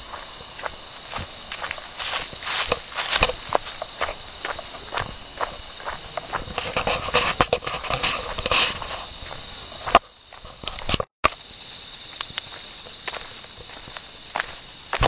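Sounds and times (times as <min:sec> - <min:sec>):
footsteps crunching on rough ground: 0:00.0 - 0:15.0
insect trilling: 0:00.0 - 0:15.0.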